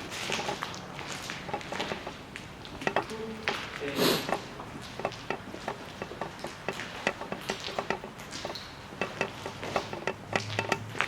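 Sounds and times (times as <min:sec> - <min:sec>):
footsteps on debris: 0:00.0 - 0:10.6.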